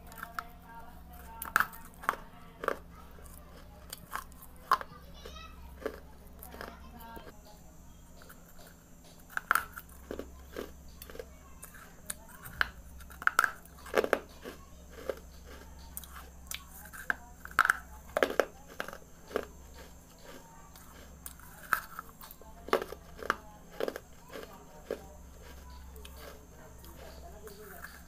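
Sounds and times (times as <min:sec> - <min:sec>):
crunchy biting and chewing: 0:00.0 - 0:28.0.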